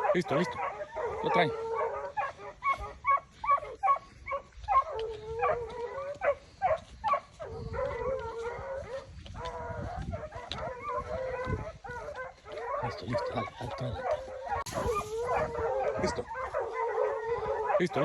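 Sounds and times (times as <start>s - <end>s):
dog barking: 0.0s - 18.0s
dog howling: 0.0s - 18.0s.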